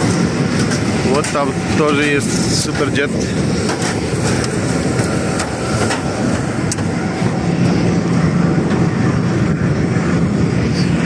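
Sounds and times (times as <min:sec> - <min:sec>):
engine drone: 0:00.0 - 0:11.0
low hum: 0:00.0 - 0:11.0.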